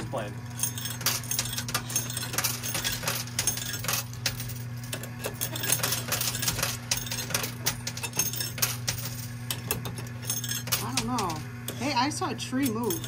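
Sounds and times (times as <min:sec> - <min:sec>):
machine low hum: 0:00.0 - 0:13.0
coins clinking and dropping: 0:00.6 - 0:11.4, 0:12.6 - 0:13.0.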